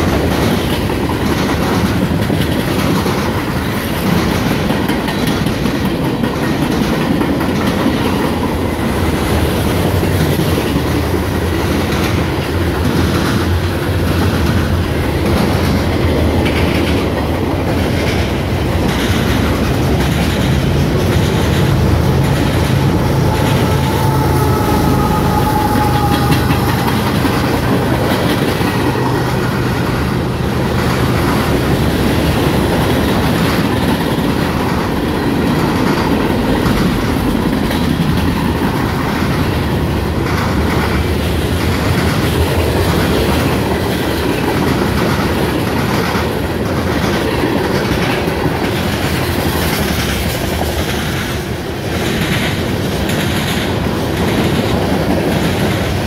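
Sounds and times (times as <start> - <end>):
diesel locomotive engine: 0.0 - 56.0
freight cars rumbling: 0.0 - 56.0
wheels clacking over rail joints: 0.0 - 56.0.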